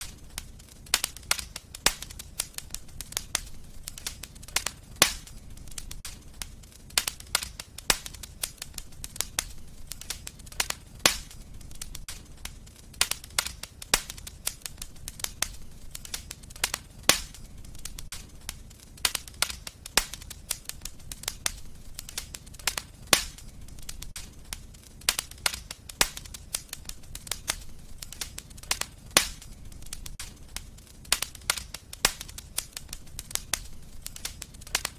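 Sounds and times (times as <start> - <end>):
fireplace fire crackling: 0.0 - 34.9.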